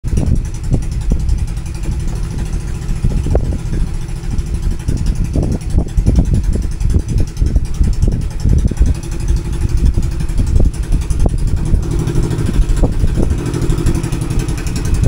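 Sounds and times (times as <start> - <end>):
boat engine running low: 0.0 - 15.0
wind buffeting microphone: 0.0 - 15.0.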